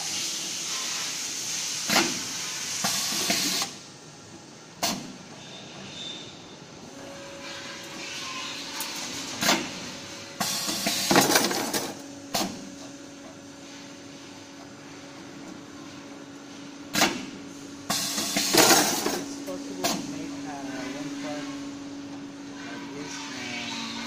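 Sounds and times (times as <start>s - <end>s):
steady motor hum: 3.4s - 24.0s.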